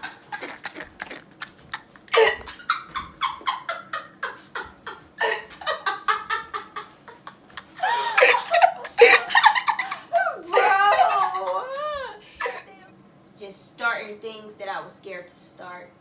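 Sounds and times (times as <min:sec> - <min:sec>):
women laughing: 0:00.0 - 0:12.9.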